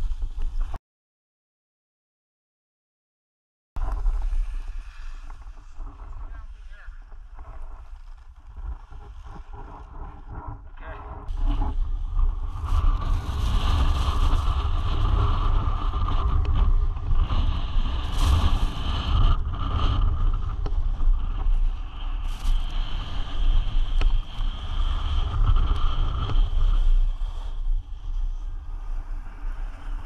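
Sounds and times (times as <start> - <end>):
low rumble: 3.8 - 30.0
wind buffeting microphone: 3.8 - 30.0.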